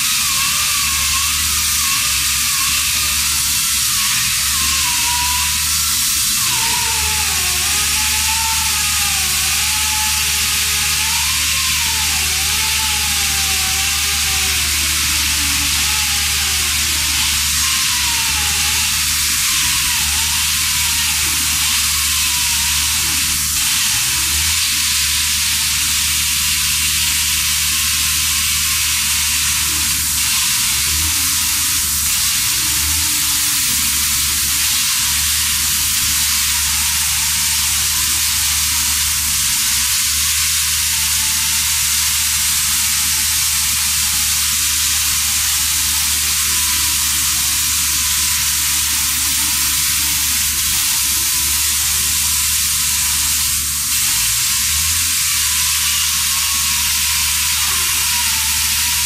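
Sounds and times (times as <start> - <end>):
concrete chain saw cutting: 0.0 - 59.0.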